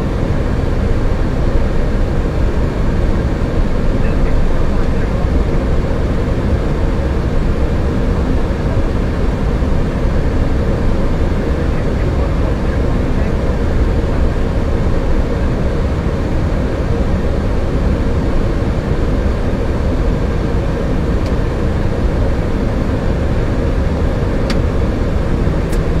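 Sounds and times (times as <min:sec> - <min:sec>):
jet engine rumble in cockpit: 0:00.0 - 0:26.0.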